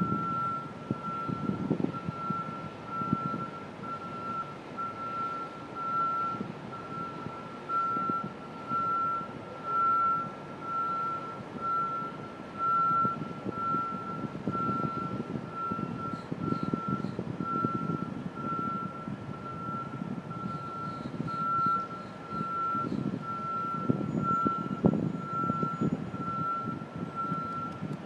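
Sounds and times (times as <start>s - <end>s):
backup alarm beeping: 0.0s - 27.8s
machinery and traffic rumble: 0.0s - 28.0s.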